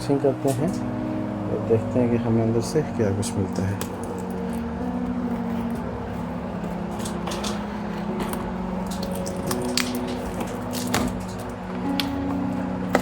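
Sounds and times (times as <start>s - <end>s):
steady low tone: 0.0s - 13.0s.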